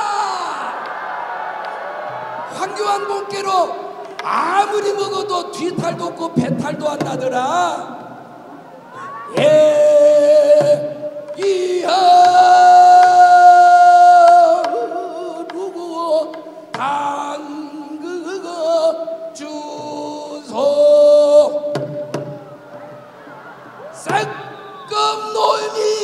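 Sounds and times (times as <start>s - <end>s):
man singing into microphone: 2.5s - 8.3s, 9.2s - 22.5s, 24.0s - 26.0s.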